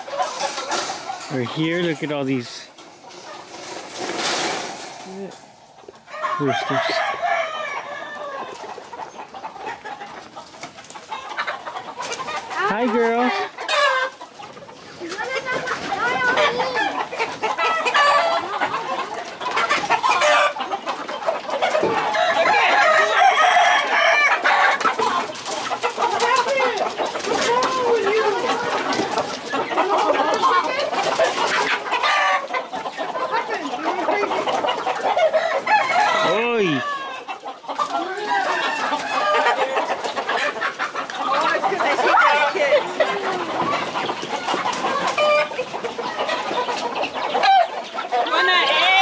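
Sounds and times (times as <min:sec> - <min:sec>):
roosters crowing: 0:00.0 - 0:10.1, 0:15.2 - 0:49.0
chickens clucking: 0:00.0 - 0:49.0.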